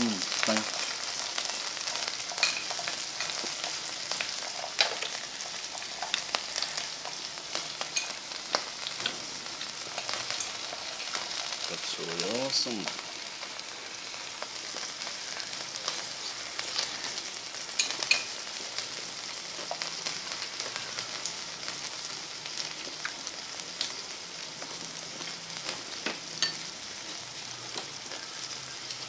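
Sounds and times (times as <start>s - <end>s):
food sizzling on grill pan: 0.0s - 29.0s.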